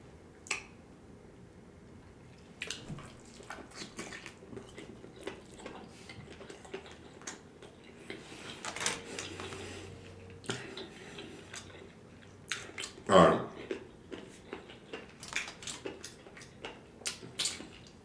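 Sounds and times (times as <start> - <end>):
chewing: 2.3 - 18.0.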